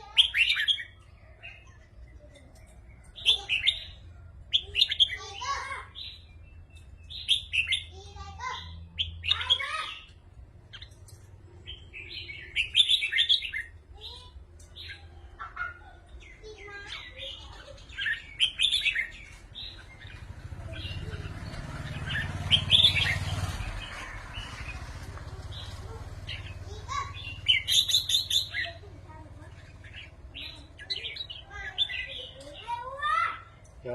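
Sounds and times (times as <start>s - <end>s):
bulbuls singing: 0.0s - 33.9s.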